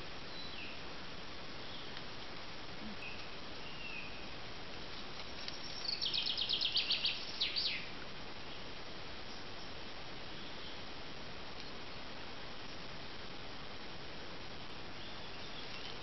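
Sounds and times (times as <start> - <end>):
small birds chirping: 0.0 - 2.2, 2.8 - 13.4, 14.6 - 16.0
background hiss: 0.0 - 16.0.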